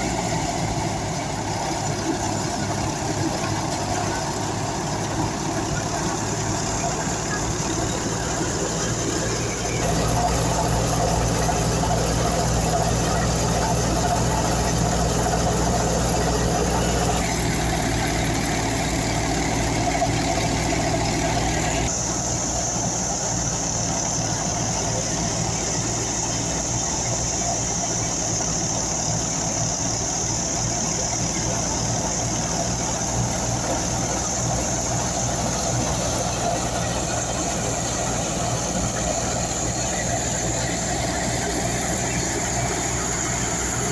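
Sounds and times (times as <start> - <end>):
engine drone: 0.0 - 43.9.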